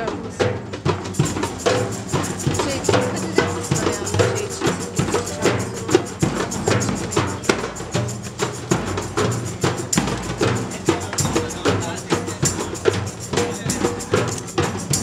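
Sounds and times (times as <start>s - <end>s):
bass drum beating: 0.0s - 15.0s
frame drums: 0.0s - 15.0s
goblet drum: 0.0s - 15.0s.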